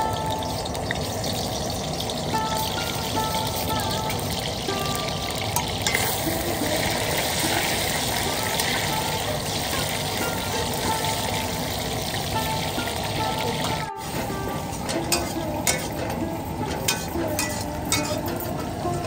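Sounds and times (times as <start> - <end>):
faint background music: 0.0 - 19.0
food sizzling in a pan: 0.0 - 19.0.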